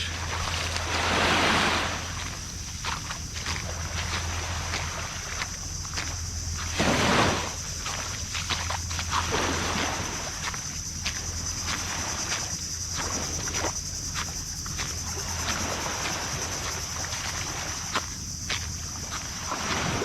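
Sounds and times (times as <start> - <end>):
jungle insects droning: 0.0 - 20.0
footsteps crunching on stony ground: 2.0 - 6.9, 7.5 - 19.5.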